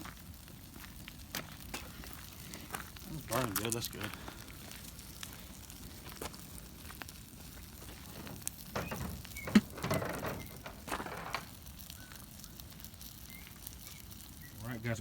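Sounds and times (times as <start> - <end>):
fire pop: 0.0 - 14.6
burning trash crackling: 0.0 - 15.0.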